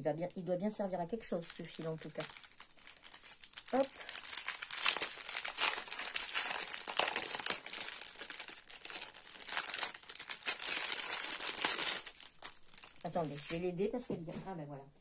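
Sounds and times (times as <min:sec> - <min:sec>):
plastic packaging crinkling: 0:00.2 - 0:13.8.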